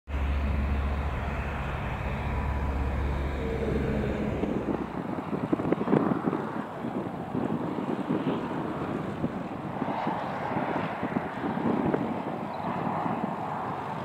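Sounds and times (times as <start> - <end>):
propeller aircraft droning: 0.1 - 14.0
wind noise on microphone: 0.1 - 14.0.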